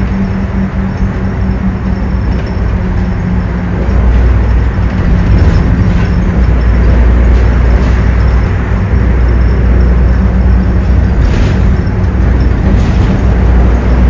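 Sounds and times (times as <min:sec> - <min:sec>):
bus engine rumble: 0:00.0 - 0:14.0
road noise: 0:00.0 - 0:14.0.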